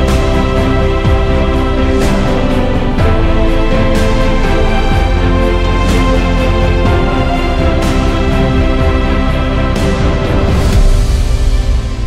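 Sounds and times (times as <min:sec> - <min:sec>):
percussion hit: 0:00.0 - 0:12.0
sustained chords over deep bass: 0:00.0 - 0:12.0.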